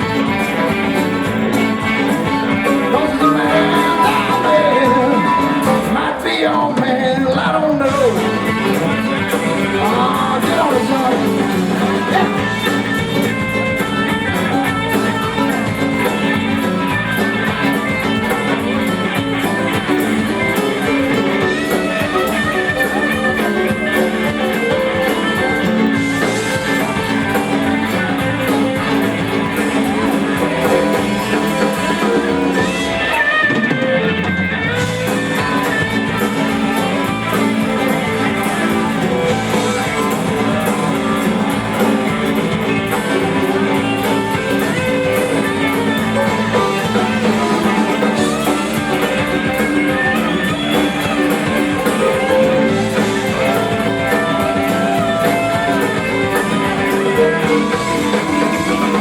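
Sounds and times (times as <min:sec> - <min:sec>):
electric guitar: 0:00.0 - 0:59.0
rock band instrumental: 0:00.0 - 0:59.0.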